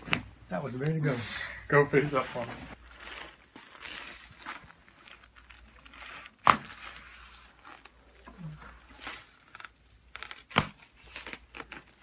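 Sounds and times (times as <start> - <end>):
crinkling and rustling on table: 2.0 - 12.0.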